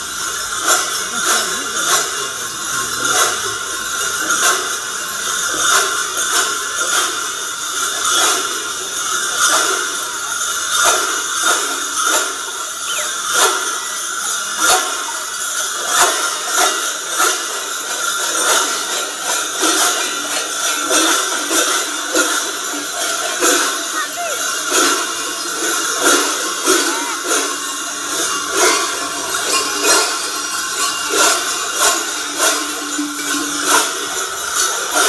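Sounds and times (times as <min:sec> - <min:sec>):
cowbells clanging rhythmically: 0:00.0 - 0:35.0.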